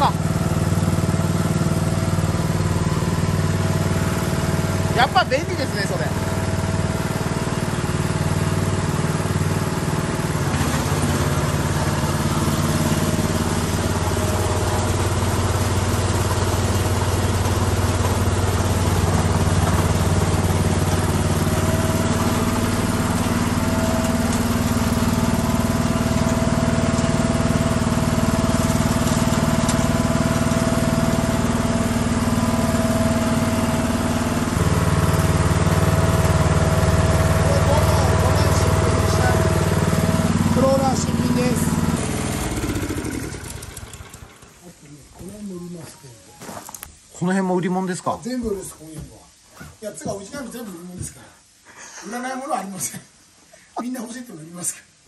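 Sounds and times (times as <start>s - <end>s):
snowblower engine running: 0.0s - 45.4s.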